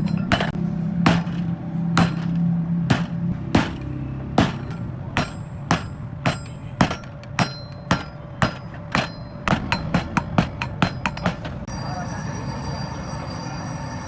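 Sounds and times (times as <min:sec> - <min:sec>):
hammer striking iron on anvil: 0:00.0 - 0:11.6.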